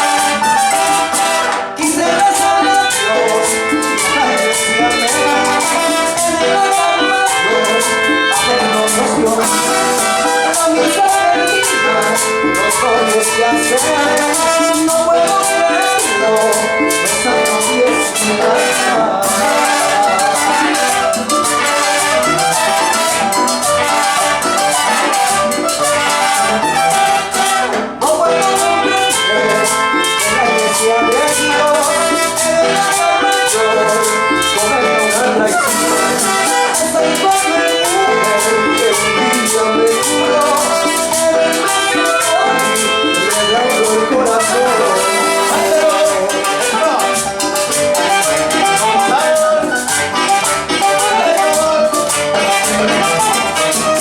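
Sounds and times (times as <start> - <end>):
maracas: 0.0 - 54.0
salsa band music: 0.0 - 54.0.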